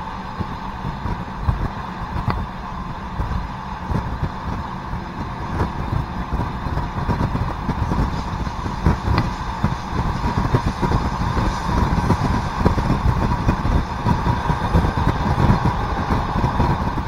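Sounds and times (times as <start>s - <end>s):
railcar engine drone: 0.0s - 17.0s
wheels rumbling on rails: 0.0s - 17.0s.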